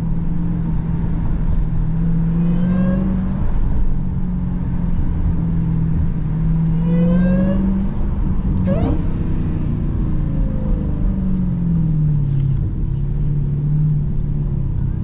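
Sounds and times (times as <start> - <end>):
car engine droning from cabin: 0.0 - 15.0.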